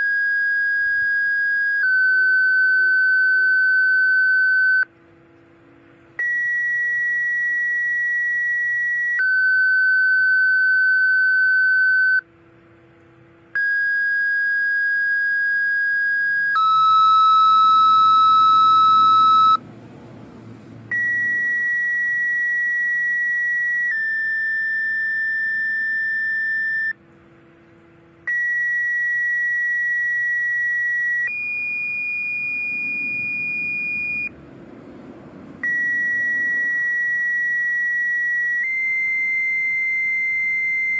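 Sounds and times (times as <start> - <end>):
two-tone radio beeps: 0.0 - 4.9, 6.2 - 12.2, 13.6 - 19.6, 20.9 - 27.0, 28.3 - 34.3, 35.6 - 40.9.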